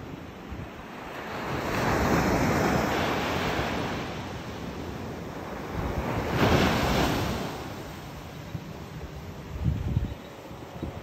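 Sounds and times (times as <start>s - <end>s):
surf breaking on a beach: 0.0s - 11.0s.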